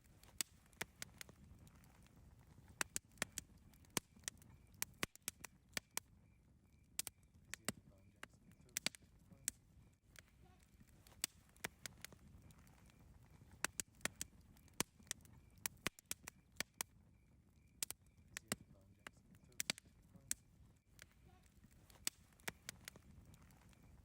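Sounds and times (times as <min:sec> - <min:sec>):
campfire pops and snaps: 0:00.0 - 0:24.0
low rush of burning wood: 0:00.0 - 0:24.0.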